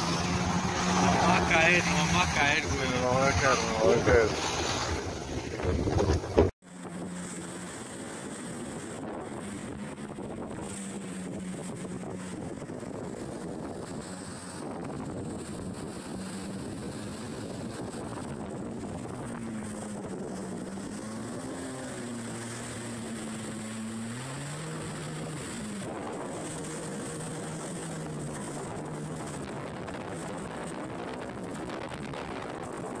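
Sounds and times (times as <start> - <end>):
jet ski engine running: 0.0 - 33.0
wind and water rushing: 0.0 - 33.0.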